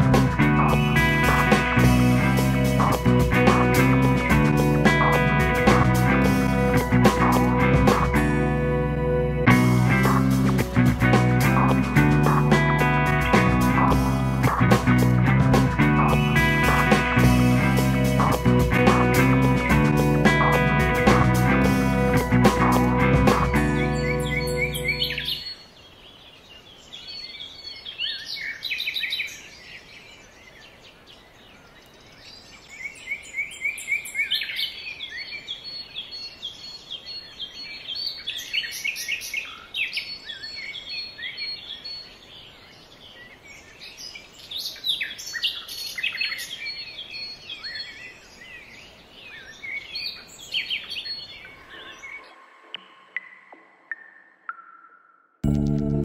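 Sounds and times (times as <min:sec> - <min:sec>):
songbirds singing and chirping: 0:00.0 - 0:08.2, 0:08.9 - 0:55.2.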